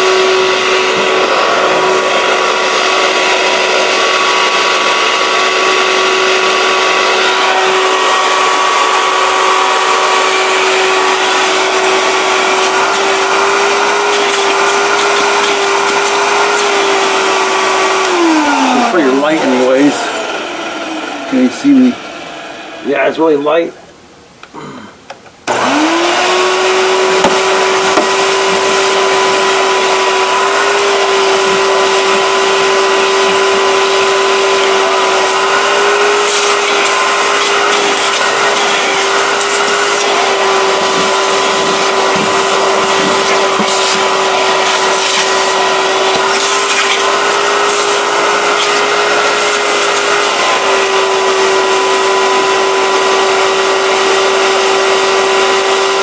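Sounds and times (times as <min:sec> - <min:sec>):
vacuum cleaner motor whining: 0:00.0 - 0:23.5, 0:25.4 - 0:56.0.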